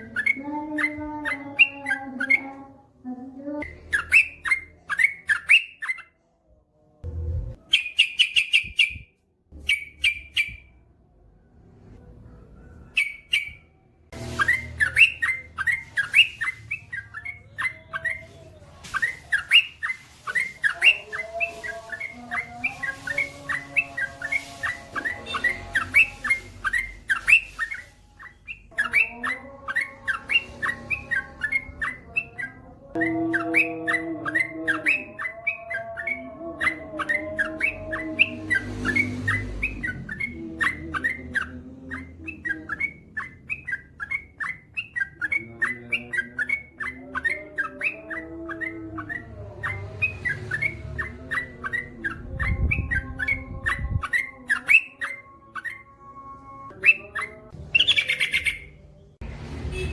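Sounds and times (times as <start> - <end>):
bird chirping: 0.0 - 2.9, 3.6 - 6.2, 7.0 - 10.9, 11.8 - 59.9.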